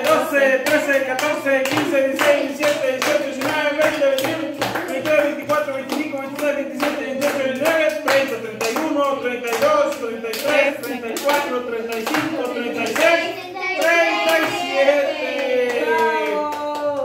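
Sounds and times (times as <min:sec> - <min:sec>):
group singing a birthday song: 0:00.0 - 0:17.0
people clapping along: 0:00.0 - 0:17.0.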